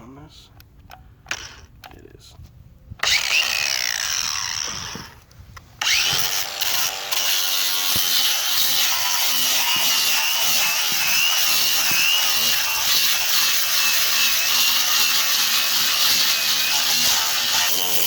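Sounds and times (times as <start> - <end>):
angle grinder grinding: 1.3 - 1.9, 3.0 - 18.0.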